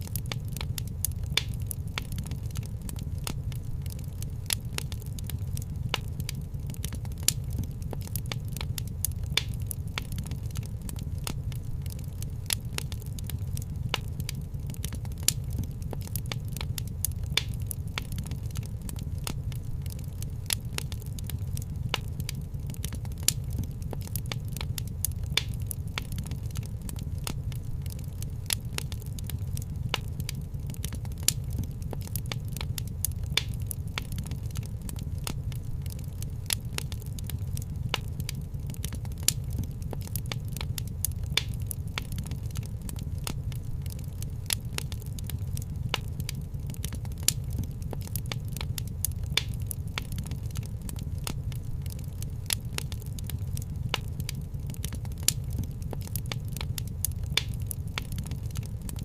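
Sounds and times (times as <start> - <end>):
fireplace fire crackling: 0.0 - 59.0
loud fire pops: 0.0 - 59.0
low rumble of flames: 0.0 - 59.0.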